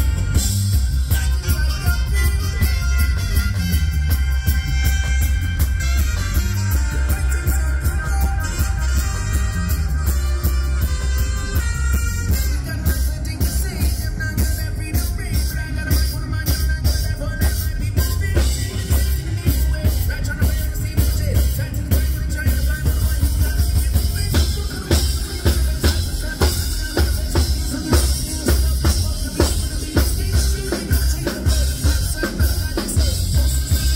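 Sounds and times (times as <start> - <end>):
drum kit beat: 0.0 - 33.9
live reggae rock band: 0.0 - 33.9
man singing lead: 0.0 - 33.9.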